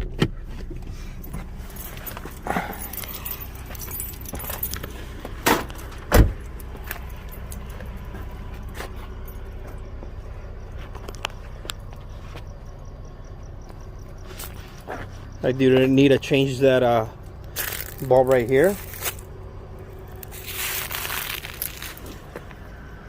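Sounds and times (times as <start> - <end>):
car engine idling: 0.0 - 23.0
light clicks and jingles: 0.6 - 22.7.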